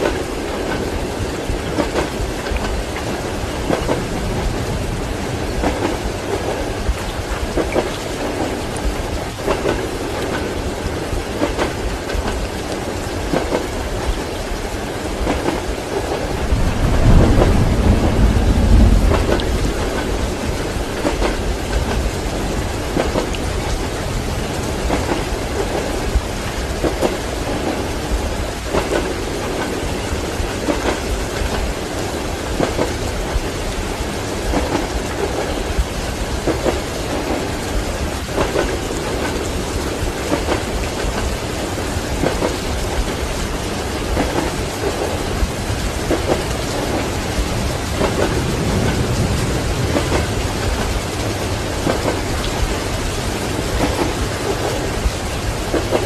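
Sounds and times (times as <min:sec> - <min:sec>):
steady rain: 0:00.0 - 0:56.0
thunder rumbling: 0:00.0 - 0:56.0
train wheels clacking on rails: 0:00.0 - 0:56.0.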